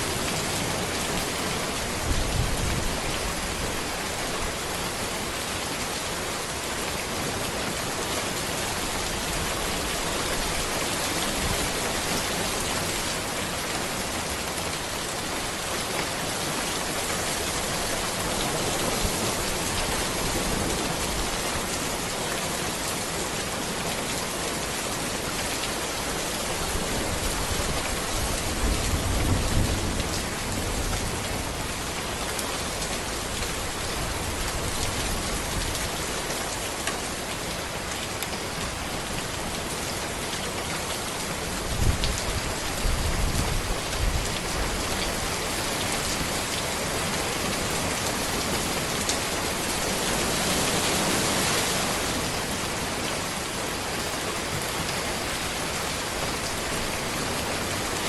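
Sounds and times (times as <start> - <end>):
heavy rain on road: 0.0 - 58.0.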